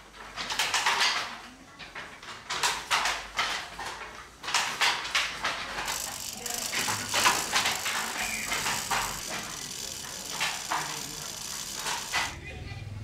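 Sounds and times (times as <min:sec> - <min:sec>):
wooden handloom clattering: 0:00.0 - 0:12.4.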